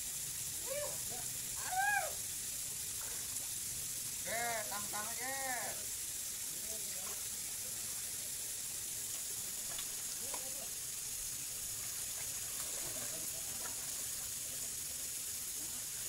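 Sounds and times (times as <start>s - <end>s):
high-pitched outdoor hiss: 0.0s - 16.0s.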